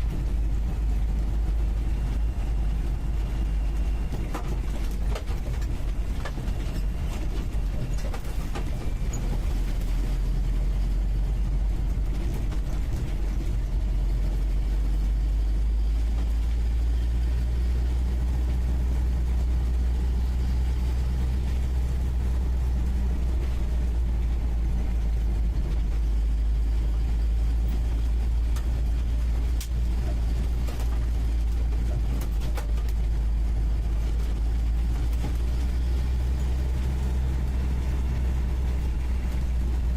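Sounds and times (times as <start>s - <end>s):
car engine drone from inside cab: 0.0s - 39.9s.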